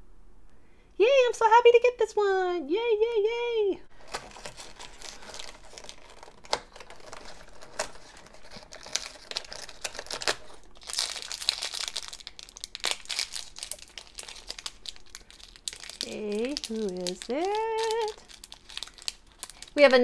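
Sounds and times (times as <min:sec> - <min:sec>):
foil bag crinkling: 0:03.9 - 0:20.0
foil bag tearing: 0:04.0 - 0:20.0.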